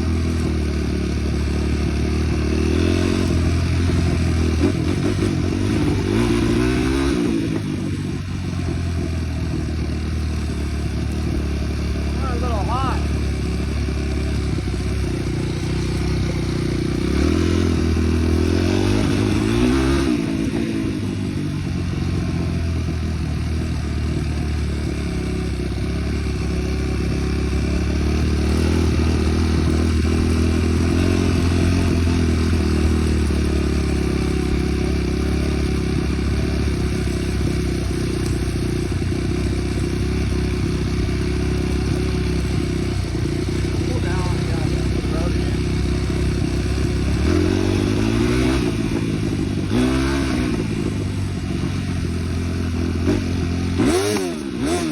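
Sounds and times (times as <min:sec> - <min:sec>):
small vehicle engine revving: 0:00.0 - 0:54.9.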